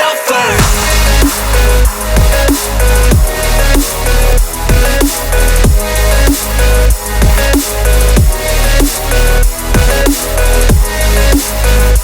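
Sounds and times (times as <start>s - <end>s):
electronic hip-hop beat: 0.0s - 12.0s.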